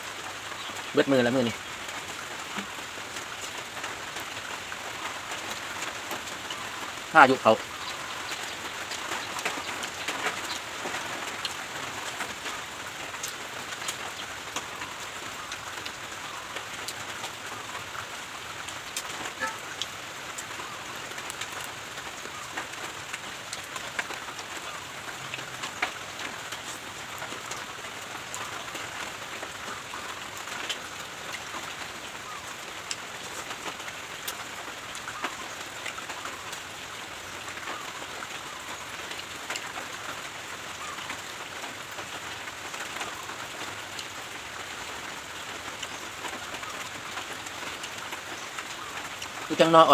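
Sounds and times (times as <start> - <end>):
light rain falling: 0.0 - 49.9
raindrops ticking on surfaces: 0.0 - 49.9.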